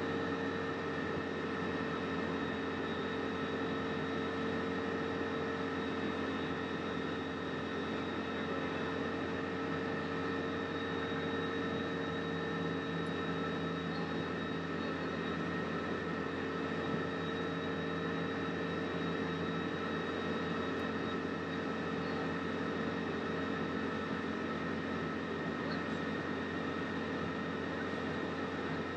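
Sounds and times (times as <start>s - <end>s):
vehicle engine droning: 0.0s - 28.9s.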